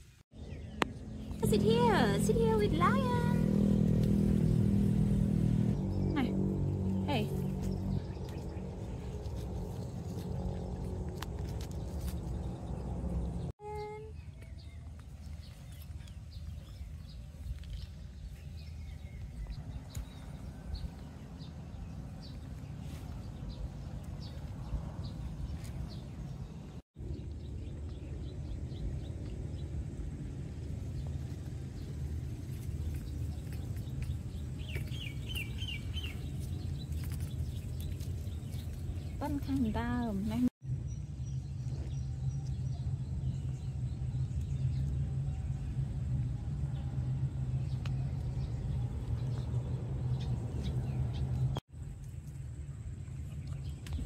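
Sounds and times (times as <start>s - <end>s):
small birds chirping: 0.0s - 46.2s, 47.4s - 54.0s
steady low rumble: 0.0s - 54.0s.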